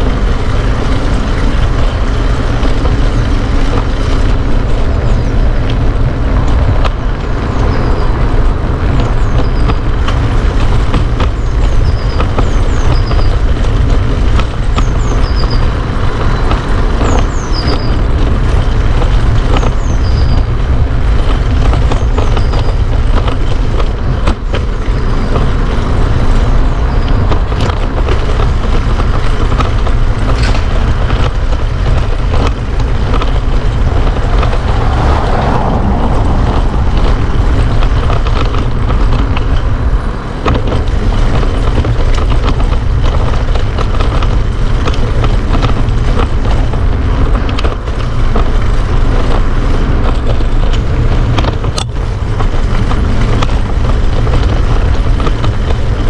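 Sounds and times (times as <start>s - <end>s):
road and traffic noise: 0.0s - 56.0s
wind buffeting microphone: 0.0s - 56.0s.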